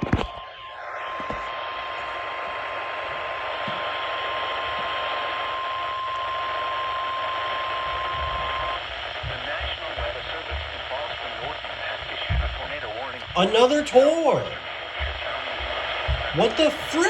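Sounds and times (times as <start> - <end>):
weather radio alarm beep: 0.0 - 17.0
static hiss: 0.7 - 17.0.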